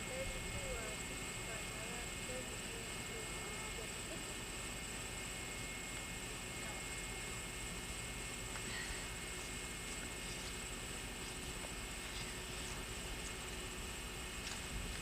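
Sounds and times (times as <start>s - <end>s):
constant hiss: 0.0s - 15.0s
electrical hum: 0.0s - 15.0s.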